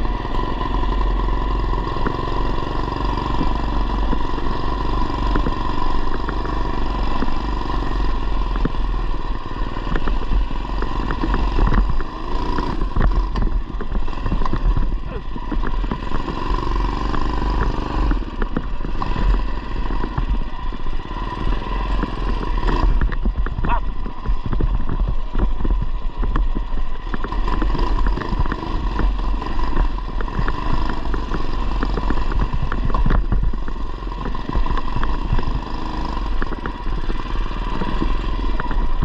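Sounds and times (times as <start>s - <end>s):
mini bike engine running: 0.0s - 39.0s.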